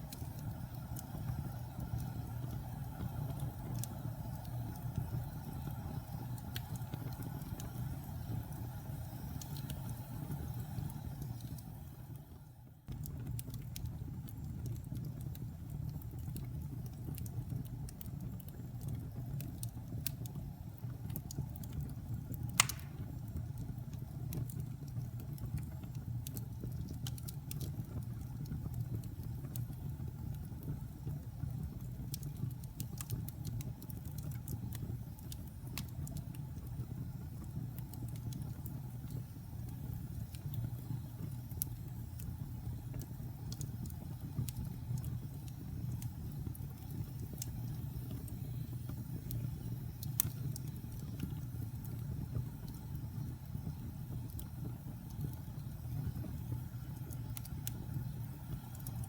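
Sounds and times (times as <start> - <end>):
fire crackles and pops: 0.0 - 59.0
fire rumbling in fireplace: 0.0 - 59.0.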